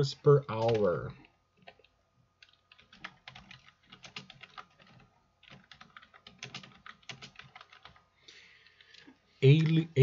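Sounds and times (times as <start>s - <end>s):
computer keyboard typing: 0.0s - 8.0s, 8.7s - 10.0s.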